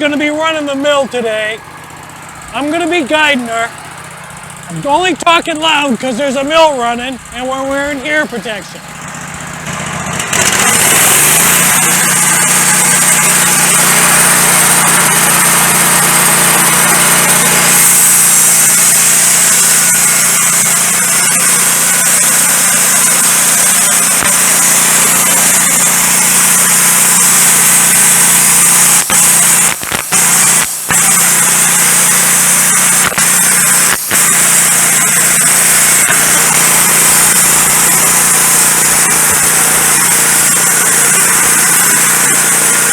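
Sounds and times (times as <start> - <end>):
band saw blade cutting log: 0.0 - 42.9
sawmill motor hum: 0.0 - 42.9.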